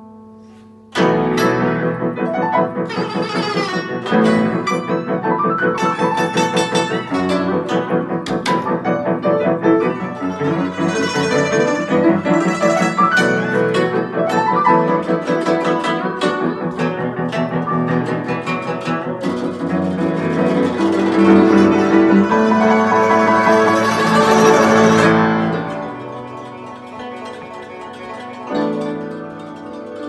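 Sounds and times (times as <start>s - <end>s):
piano harmony: 0.0s - 30.0s
plucked zither notes: 0.4s - 30.0s.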